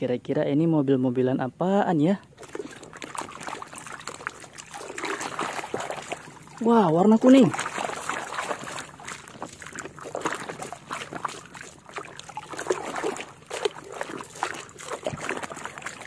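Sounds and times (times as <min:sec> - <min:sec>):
water sloshing in plastic basin: 0:02.2 - 0:16.0.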